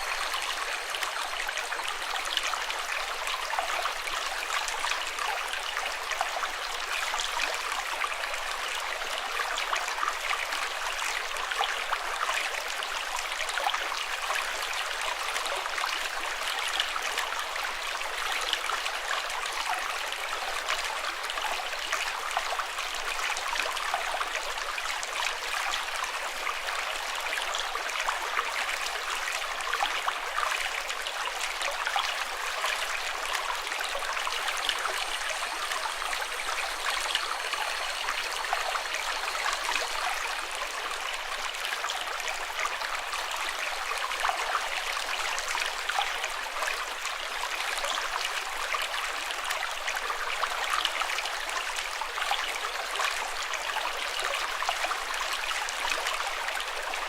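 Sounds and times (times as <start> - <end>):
running water: 0.0 - 9.9, 10.5 - 57.0.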